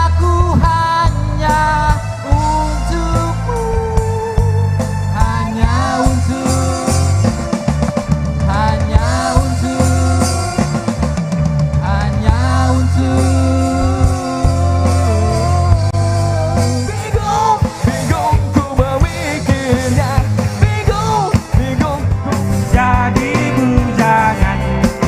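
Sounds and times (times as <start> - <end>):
rock music: 0.0 - 25.0.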